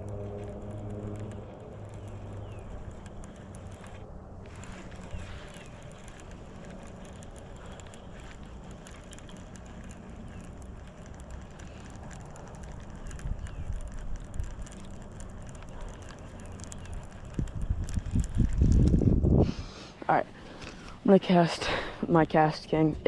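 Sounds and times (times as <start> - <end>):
light clicks and handling noise: 0.0 - 22.9
wind rumbling on microphone: 0.0 - 23.0.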